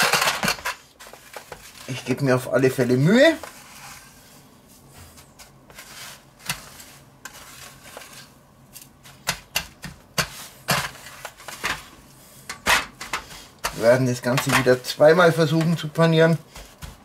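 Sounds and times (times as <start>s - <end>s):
breadcrumbs scraping and rustling: 0.0s - 17.0s.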